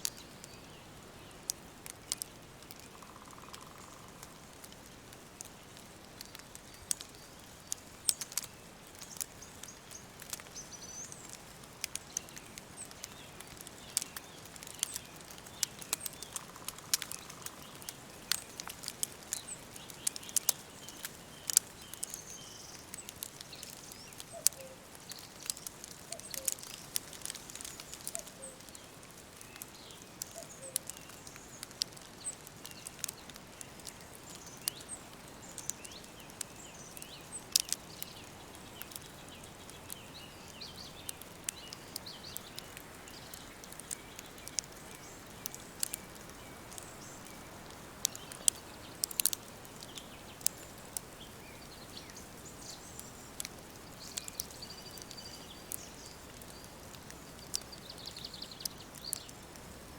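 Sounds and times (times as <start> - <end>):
soft steady hiss: 0.0 - 59.9
sharp irregular clicks: 1.5 - 10.5, 11.1 - 22.3, 22.9 - 28.8, 29.4 - 51.1, 53.0 - 59.4.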